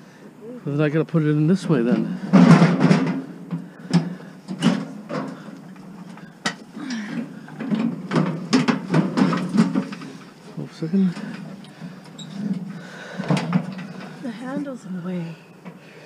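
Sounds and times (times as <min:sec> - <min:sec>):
metal barbecue clunking: 0:01.7 - 0:14.8.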